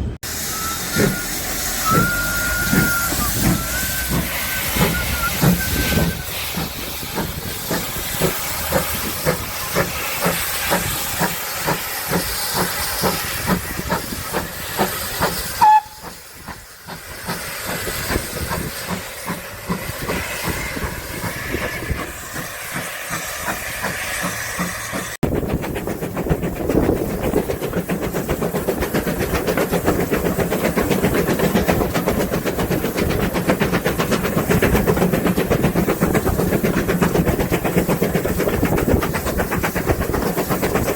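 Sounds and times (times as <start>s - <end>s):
steam locomotive chuffing: 0.0s - 40.9s
train running rhythmically: 0.0s - 40.9s
steam hissing: 0.2s - 40.9s.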